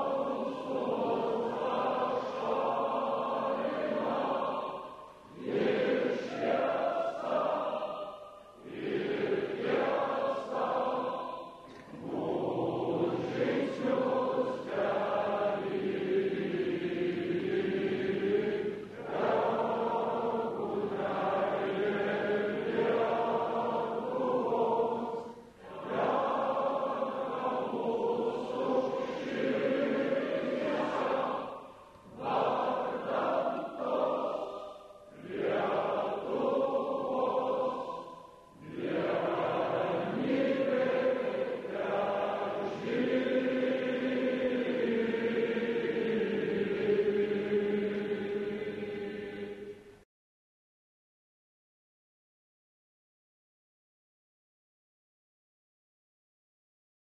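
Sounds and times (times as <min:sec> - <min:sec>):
crowd singing in unison: 0:00.0 - 0:50.0.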